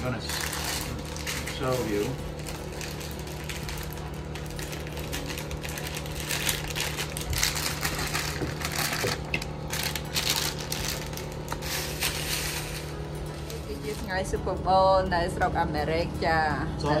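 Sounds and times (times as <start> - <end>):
plastic bag crinkling: 0.0 - 14.3
steady low hum: 0.0 - 17.0.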